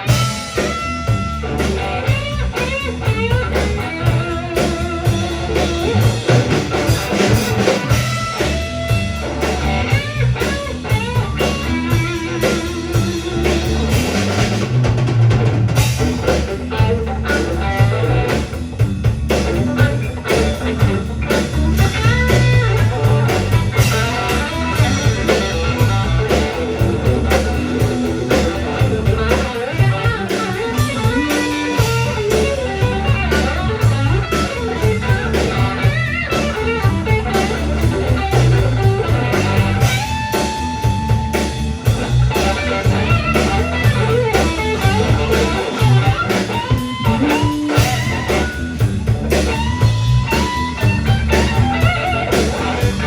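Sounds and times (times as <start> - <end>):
electric lead guitar: 0.0 - 53.0
rock band instrumental: 0.0 - 53.0.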